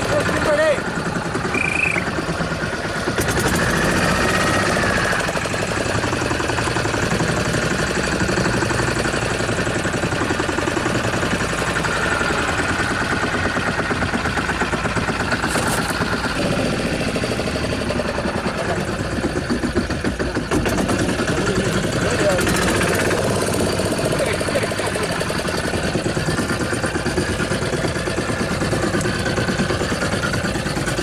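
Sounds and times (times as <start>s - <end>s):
boat engine running at low revs: 0.0s - 31.0s.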